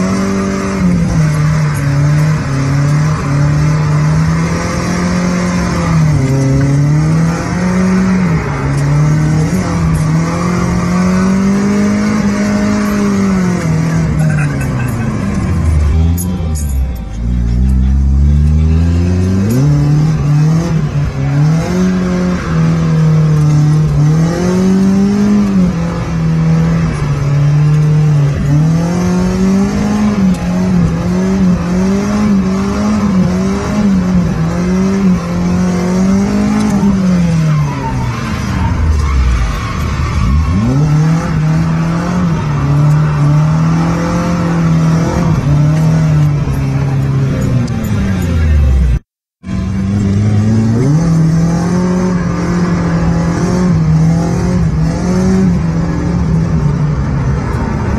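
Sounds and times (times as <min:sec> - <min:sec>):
car engine revving hard: 0:00.0 - 0:15.9, 0:17.8 - 0:47.5, 0:49.6 - 0:57.9.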